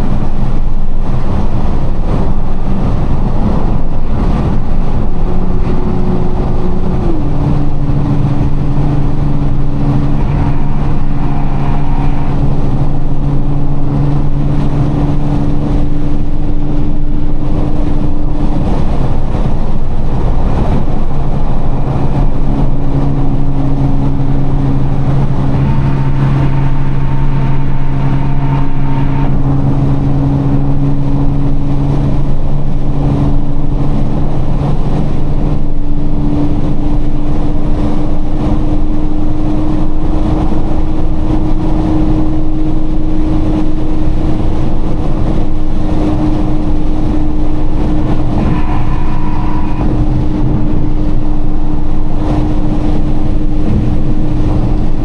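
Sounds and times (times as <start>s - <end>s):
car engine drone: 0.0s - 55.0s
tyre and road noise: 0.0s - 55.0s.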